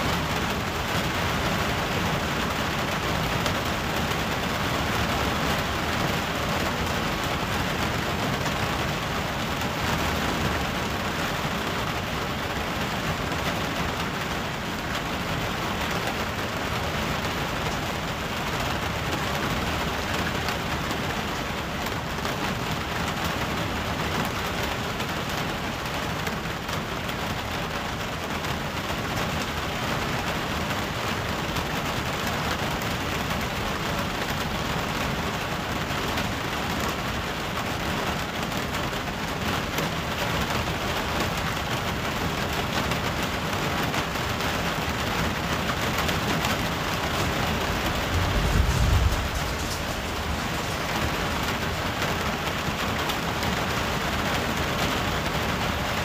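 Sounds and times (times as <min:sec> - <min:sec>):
rain on sheet metal: 0:00.0 - 0:56.0.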